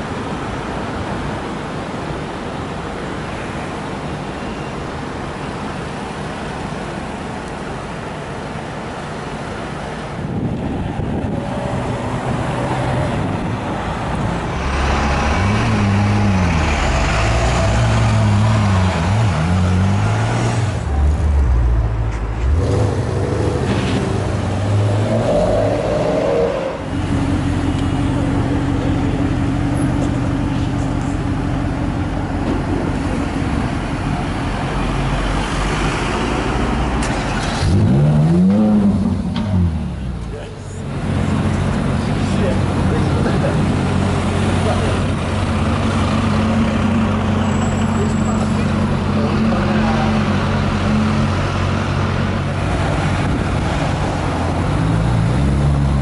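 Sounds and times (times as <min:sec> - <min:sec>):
engine steady drone: 0:00.0 - 0:56.0.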